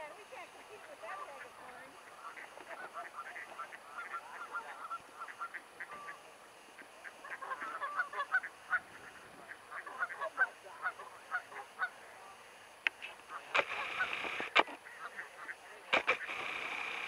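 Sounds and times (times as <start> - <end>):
ducks quacking: 0.3 - 12.1, 13.2 - 16.6.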